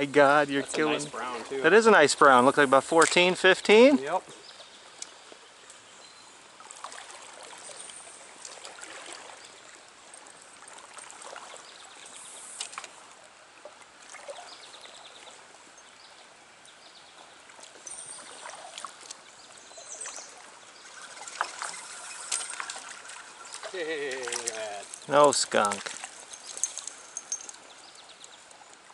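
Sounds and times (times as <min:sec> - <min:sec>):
stream water trickling: 0:00.0 - 0:28.9.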